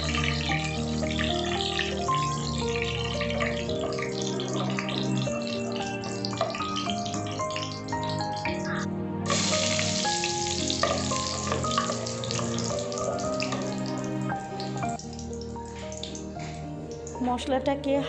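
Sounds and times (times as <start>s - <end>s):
spices sizzling in hot oil: 0.0s - 17.2s
background music: 0.0s - 18.0s.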